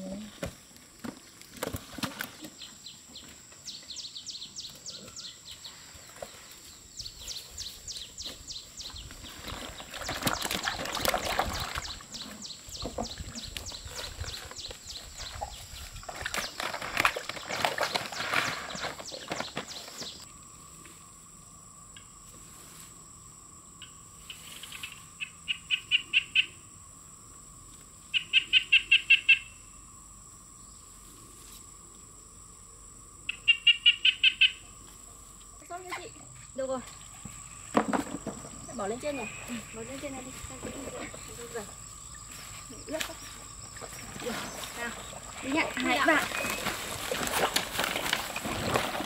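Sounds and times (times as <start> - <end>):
faint hum: 0.0 - 49.0.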